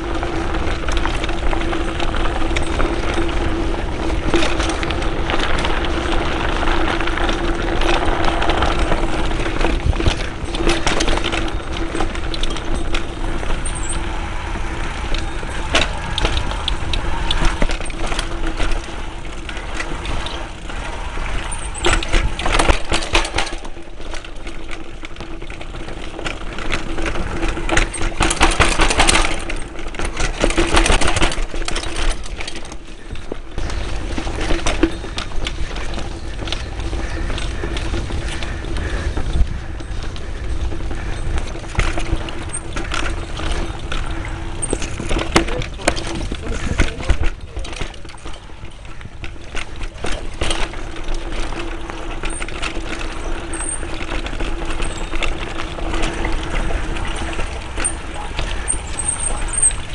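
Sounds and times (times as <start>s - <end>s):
bike chain and frame rattling: 0.0s - 59.9s
bike tyres rumbling over dirt: 0.0s - 59.9s.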